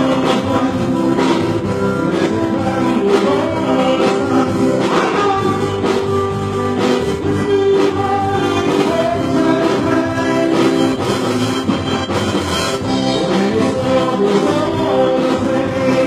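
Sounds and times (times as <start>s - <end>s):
live rock band playing: 0.0s - 16.0s
man singing lead: 0.0s - 16.0s.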